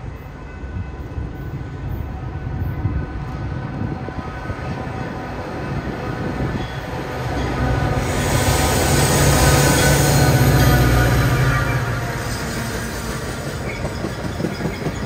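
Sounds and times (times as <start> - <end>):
diesel locomotive approaching: 0.0 - 15.0.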